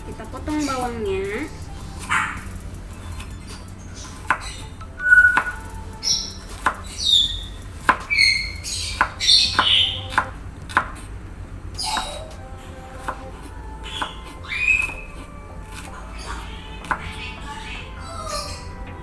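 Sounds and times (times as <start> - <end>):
high chirping calls: 0.0 - 10.3, 11.8 - 12.6, 13.2 - 19.0.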